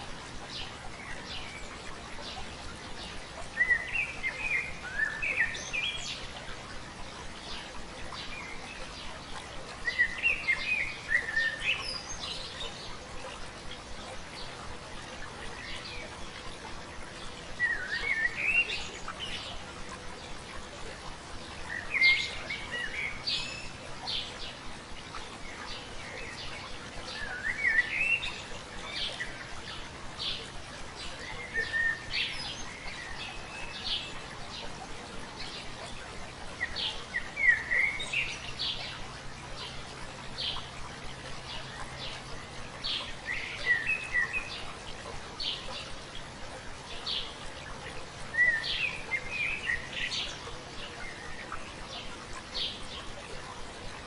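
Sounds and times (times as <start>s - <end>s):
songbird chirping: 0.0s - 54.0s
stream water running: 0.0s - 54.0s.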